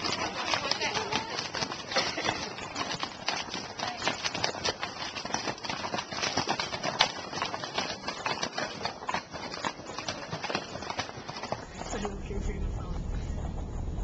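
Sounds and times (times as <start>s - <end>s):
horse hooves on stony track: 0.0s - 14.0s.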